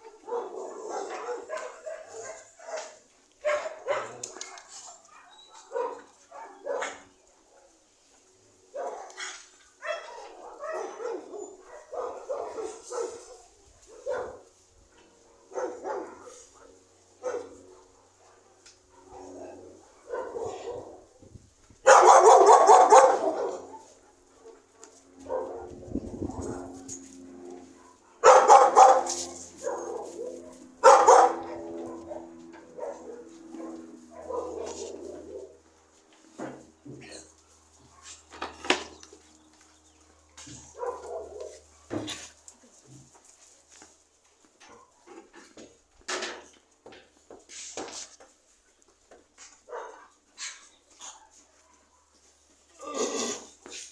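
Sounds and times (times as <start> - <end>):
dogs barking: 0.0 - 7.8, 8.6 - 21.1, 21.8 - 39.2, 39.8 - 42.4, 49.4 - 52.5.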